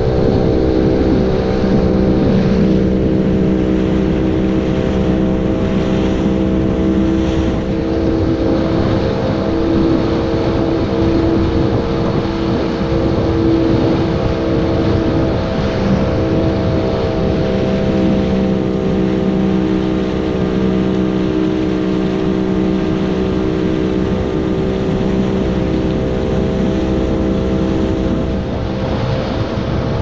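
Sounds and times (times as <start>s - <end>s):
outboard motor running: 0.0s - 30.0s
water rushing from wake: 0.0s - 30.0s.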